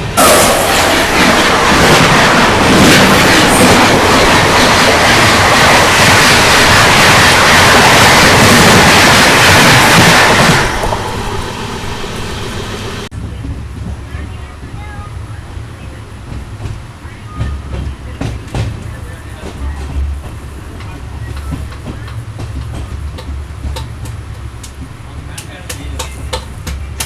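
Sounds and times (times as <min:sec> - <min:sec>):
train wheels rushing on rails: 0:00.0 - 0:27.0.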